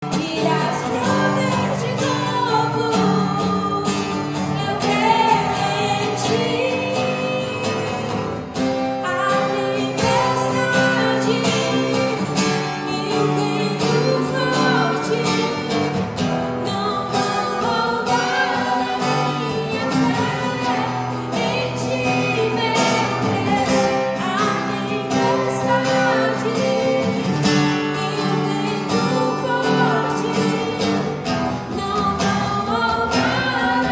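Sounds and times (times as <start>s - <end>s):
gospel singing with instruments: 0.0s - 33.9s.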